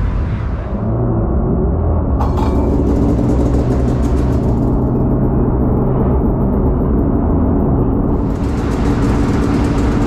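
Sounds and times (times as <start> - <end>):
snowmobile engine droning: 0.9 - 10.0.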